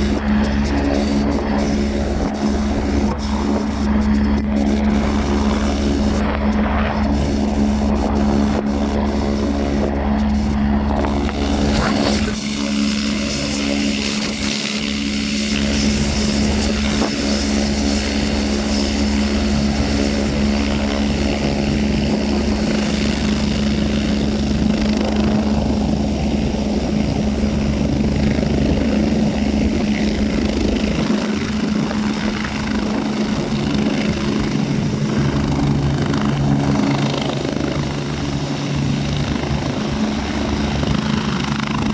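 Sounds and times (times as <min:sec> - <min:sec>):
helicopter rotor and engine whine: 0:00.0 - 0:41.9.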